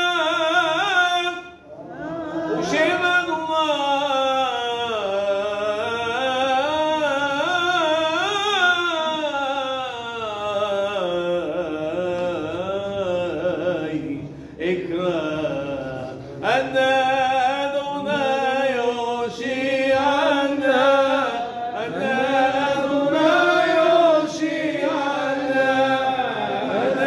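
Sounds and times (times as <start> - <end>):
man singing unaccompanied: 0.0 - 1.7, 2.6 - 27.0.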